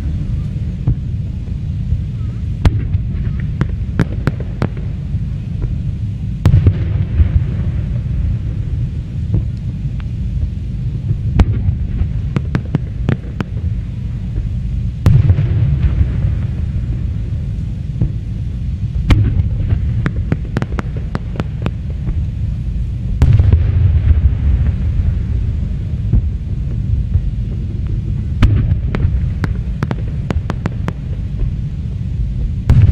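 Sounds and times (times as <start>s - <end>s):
fireworks booms: 0.0s - 32.9s
fireworks crackling pops: 0.0s - 32.9s
fireworks rumble: 0.0s - 32.9s.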